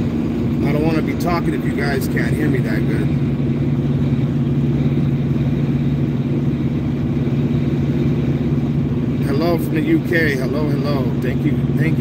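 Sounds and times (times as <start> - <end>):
road and tyre noise: 0.0 - 12.0
truck engine drone: 0.0 - 12.0.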